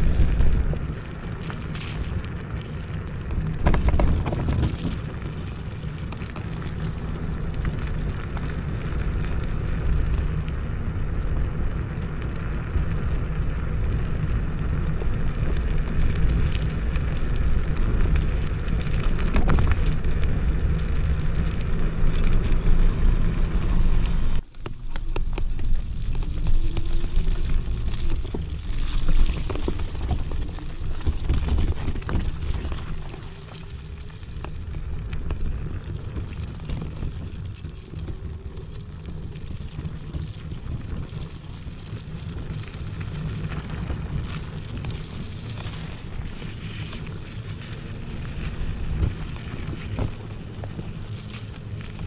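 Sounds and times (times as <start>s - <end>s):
scooter tyres rumbling on rough track: 0.0s - 52.0s.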